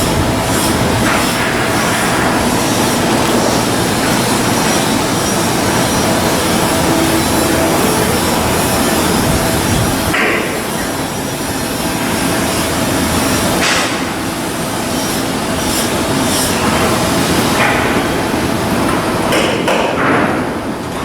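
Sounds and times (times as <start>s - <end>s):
loud steady machine noise: 0.0s - 21.0s.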